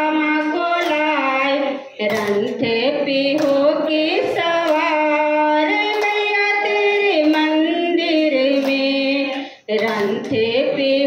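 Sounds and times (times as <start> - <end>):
woman singing devotional song: 0.0 - 11.0
hand claps: 0.3 - 1.4, 2.0 - 10.6.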